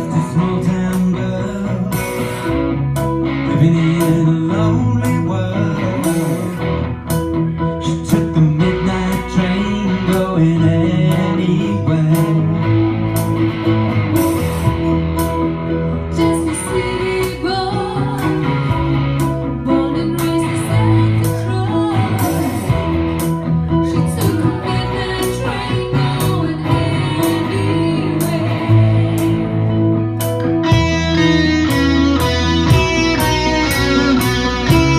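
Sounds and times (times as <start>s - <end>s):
bass line: 0.0s - 34.9s
electric guitar: 0.0s - 34.9s
live rock band: 0.0s - 34.9s.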